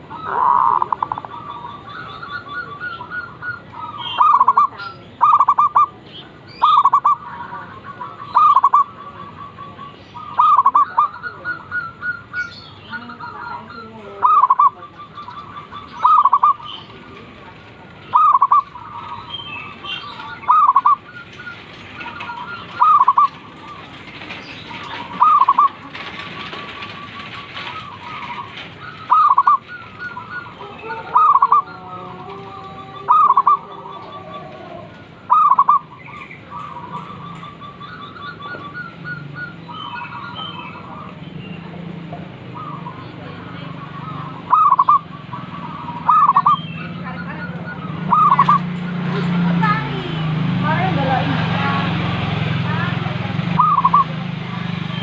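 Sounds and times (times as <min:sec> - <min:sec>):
dove cooing: 0:00.0 - 0:55.0
small birds chirping: 0:00.0 - 0:55.0.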